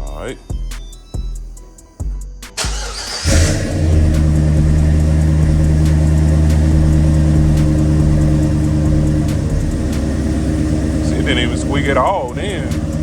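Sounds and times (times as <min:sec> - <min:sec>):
car engine starting and idling: 0:02.5 - 0:13.0.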